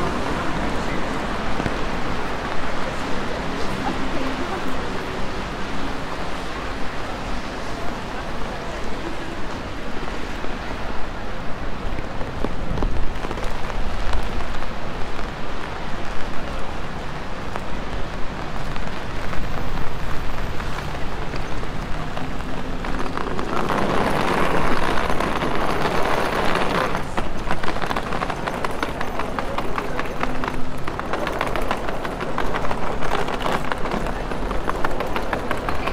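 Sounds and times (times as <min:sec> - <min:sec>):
rain on street: 0:00.0 - 0:35.9.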